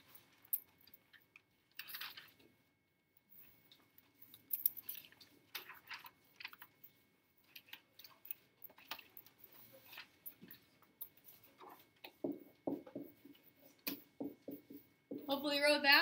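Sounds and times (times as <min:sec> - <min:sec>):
faint small clicks and rustles: 0:00.0 - 0:14.1.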